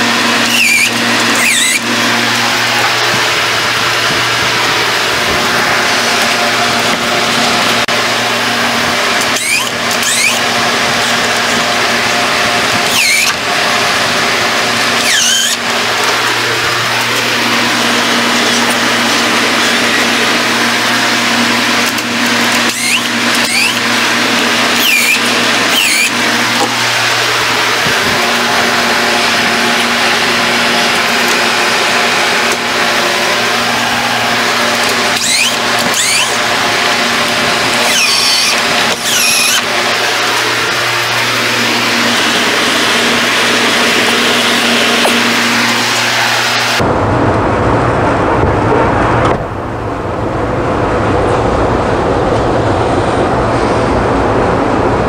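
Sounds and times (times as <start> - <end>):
low hum: 0.0 - 55.0
machine droning: 0.0 - 55.0.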